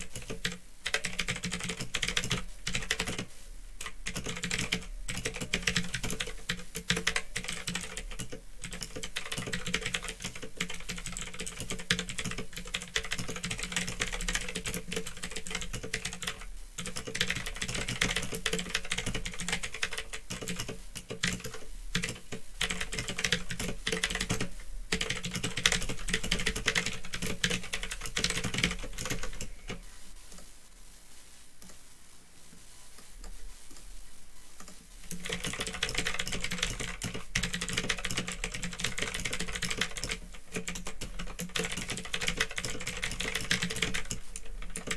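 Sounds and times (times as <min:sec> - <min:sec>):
fast typing on mechanical keyboard: 0:00.0 - 0:29.8, 0:35.1 - 0:44.9.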